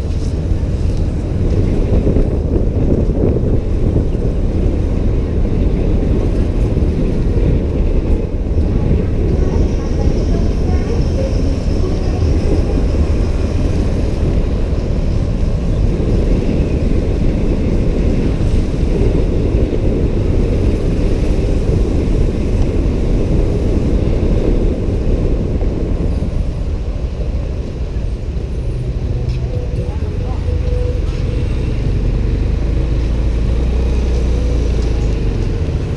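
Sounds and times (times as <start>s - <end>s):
motorbike road noise: 0.0s - 35.9s
wind rumble on microphone: 0.0s - 35.9s.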